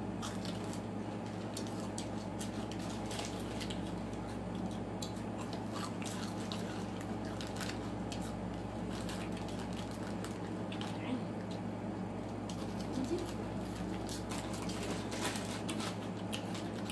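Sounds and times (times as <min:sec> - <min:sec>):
steady low hum: 0:00.0 - 0:16.9
children crunching crisp food: 0:00.1 - 0:11.1, 0:12.4 - 0:16.9.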